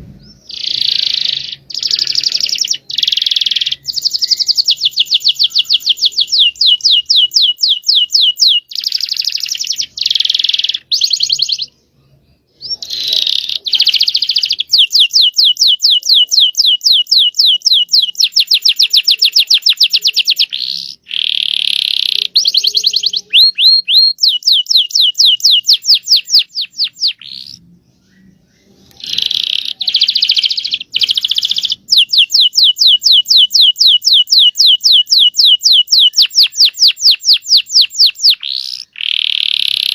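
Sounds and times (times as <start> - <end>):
canary singing rapid trills: 0.2 - 11.8, 12.6 - 39.9.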